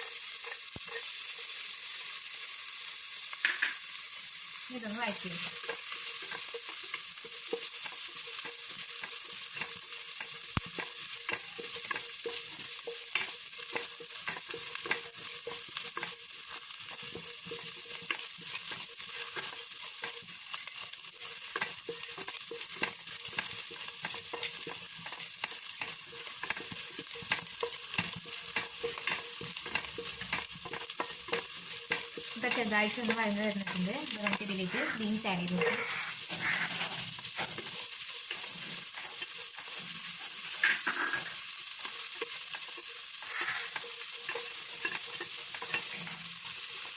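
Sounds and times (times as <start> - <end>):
food sizzling in butter: 0.0 - 46.9
utensil scraping against pan: 5.4 - 46.9.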